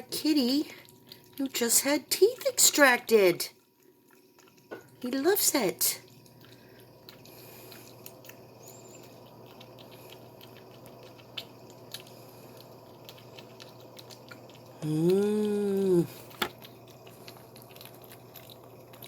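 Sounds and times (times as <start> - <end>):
cat lapping food: 0.1 - 19.0.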